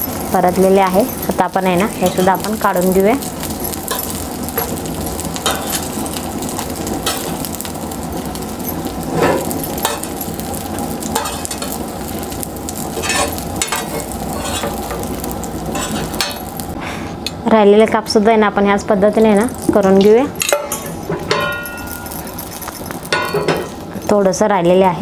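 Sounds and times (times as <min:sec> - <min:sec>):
slices sizzling in oil: 0:00.0 - 0:16.8, 0:19.1 - 0:23.9.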